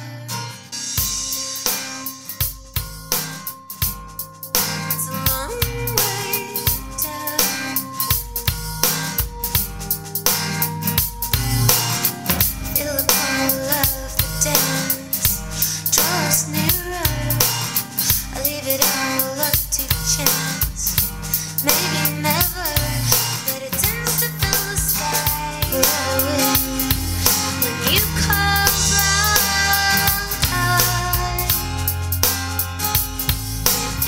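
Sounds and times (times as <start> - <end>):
music with drum beat and bass: 0.0 - 34.0.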